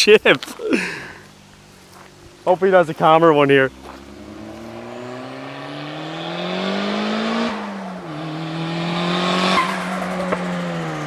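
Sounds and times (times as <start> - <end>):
turbocharged car engine revving: 1.6 - 11.0.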